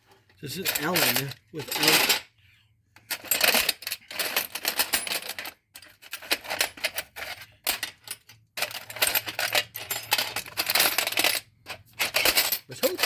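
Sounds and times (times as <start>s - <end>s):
metal wrenches clinking in a box: 0.5s - 2.3s, 3.0s - 13.0s.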